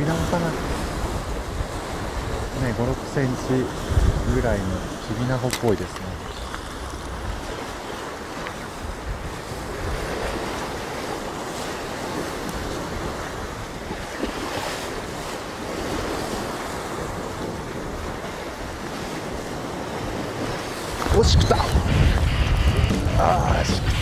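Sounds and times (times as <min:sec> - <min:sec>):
sea waves washing on rocks: 0:00.0 - 0:24.0
wind buffeting microphone: 0:00.0 - 0:24.0.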